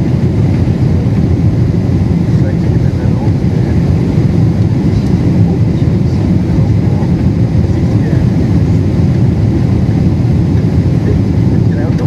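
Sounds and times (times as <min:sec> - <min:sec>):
airflow inside aircraft cabin: 0:00.0 - 0:12.0
jet engines rumbling: 0:00.0 - 0:12.0.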